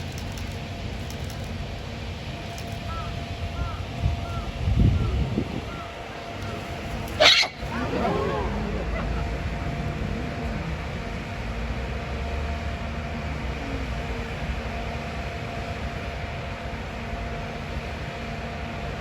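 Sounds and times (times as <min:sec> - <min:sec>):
faint constant hum: 0:00.0 - 0:19.0
steady rushing noise: 0:00.0 - 0:19.0.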